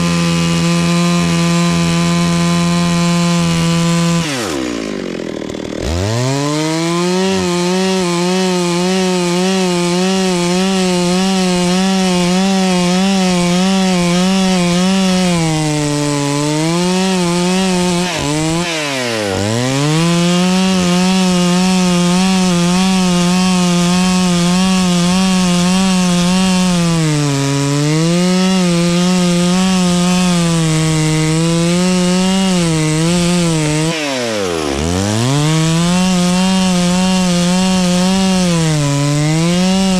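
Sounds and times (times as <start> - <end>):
chainsaw cutting through tree: 0.0 - 39.9.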